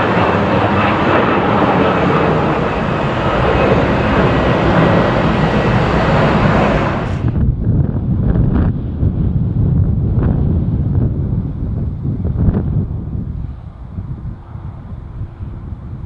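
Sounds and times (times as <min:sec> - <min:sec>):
jet engine roar: 0:00.0 - 0:16.0
wind buffeting microphone: 0:00.0 - 0:16.0.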